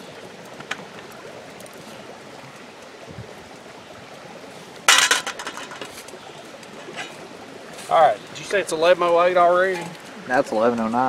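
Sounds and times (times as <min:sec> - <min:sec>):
campfire crackling: 0:00.0 - 0:11.0
creek flowing: 0:00.0 - 0:11.0.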